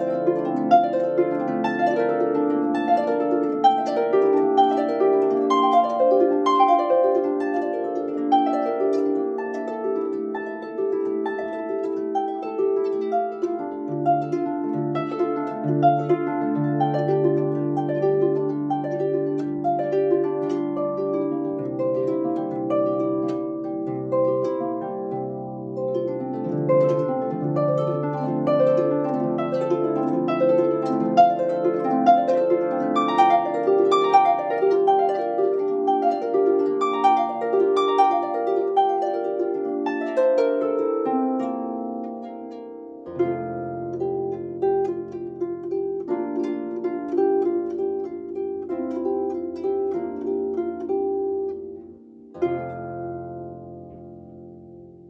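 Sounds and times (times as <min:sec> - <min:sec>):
harp playing: 0:00.0 - 0:55.0.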